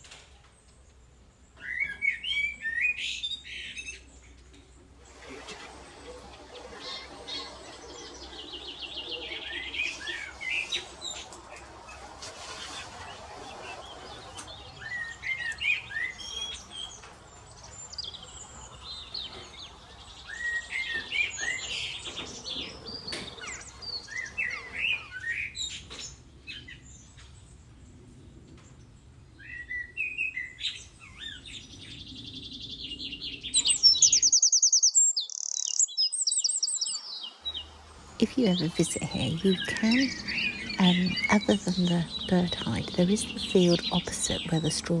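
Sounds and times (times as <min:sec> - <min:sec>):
songbirds singing: 0:00.5 - 0:05.2, 0:06.2 - 0:12.0, 0:12.6 - 0:45.0.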